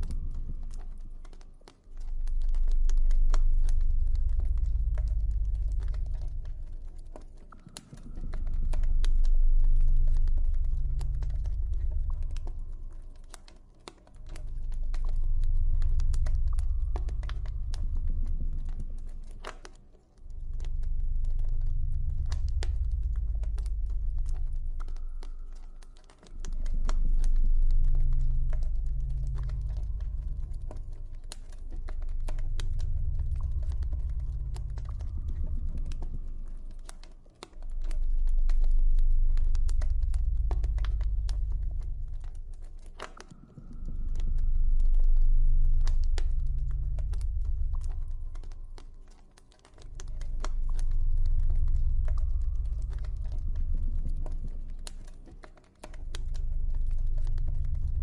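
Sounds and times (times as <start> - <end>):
deep low drone: 0.0 - 58.0
campfire crackling and popping: 2.1 - 58.0.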